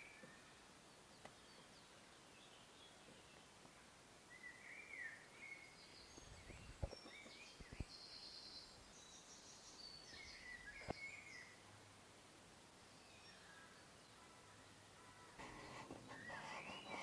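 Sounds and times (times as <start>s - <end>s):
songbirds singing: 0.0s - 12.0s, 12.7s - 17.0s.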